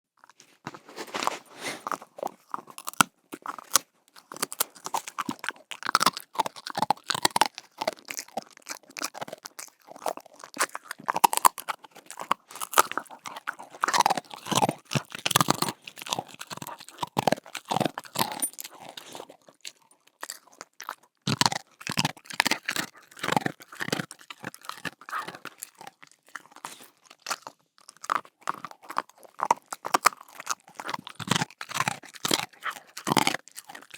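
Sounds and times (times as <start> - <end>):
dog chewing a bone: 0.2 - 33.9.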